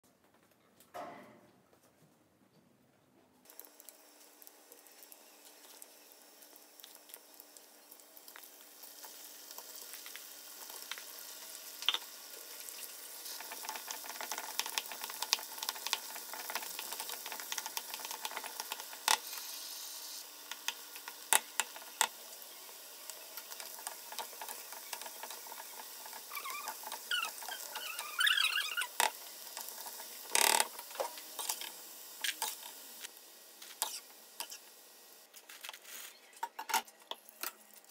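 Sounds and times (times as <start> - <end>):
chicken sizzling in hot oil: 3.5 - 35.3.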